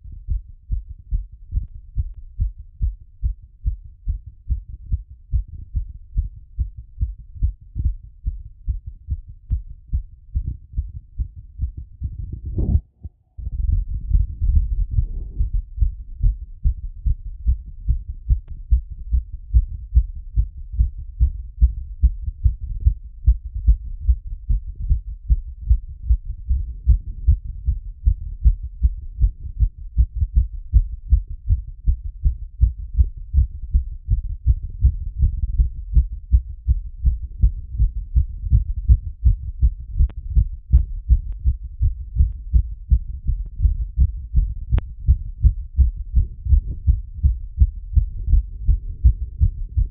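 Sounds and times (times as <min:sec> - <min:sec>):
muffled heartbeat thuds: 0:00.0 - 0:49.9.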